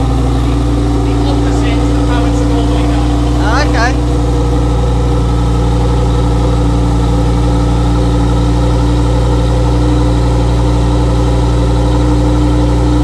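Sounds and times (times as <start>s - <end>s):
sports car engine idling: 0.0s - 13.0s.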